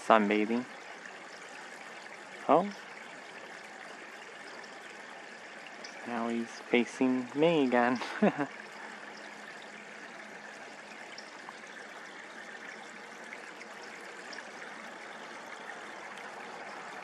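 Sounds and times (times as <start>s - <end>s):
water trickling in creek: 0.0s - 17.0s.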